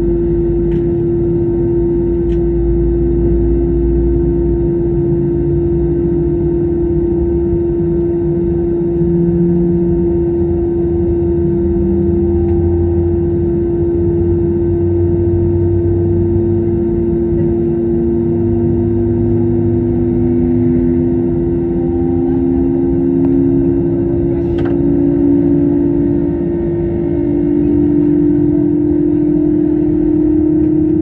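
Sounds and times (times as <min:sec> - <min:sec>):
jet engine cabin hum: 0:00.0 - 0:31.0
low rumble: 0:00.0 - 0:31.0.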